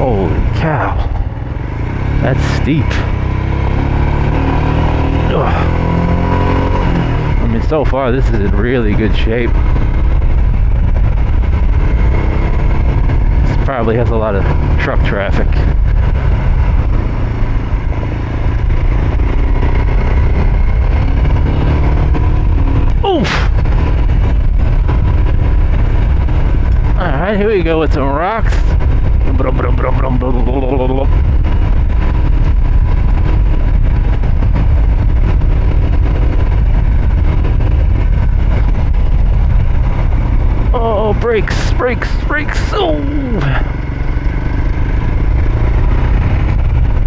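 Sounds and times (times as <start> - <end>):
motorcycle engine at low revs: 0.0 - 47.0
wind and tyre noise: 0.0 - 47.0.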